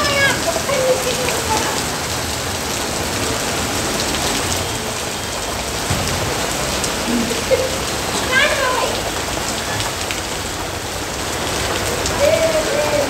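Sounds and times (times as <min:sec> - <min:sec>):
heavy rain on street and vehicles: 0:00.0 - 0:13.0.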